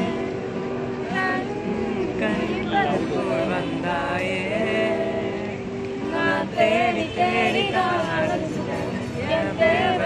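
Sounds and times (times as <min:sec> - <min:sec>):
group of people singing: 0:00.0 - 0:10.0
woman singing: 0:00.0 - 0:10.0.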